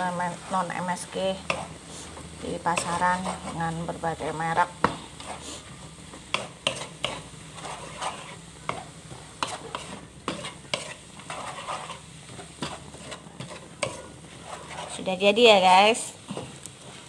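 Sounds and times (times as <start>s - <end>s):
food sizzling: 0.0s - 17.0s
spatula scraping a wok: 0.0s - 17.0s.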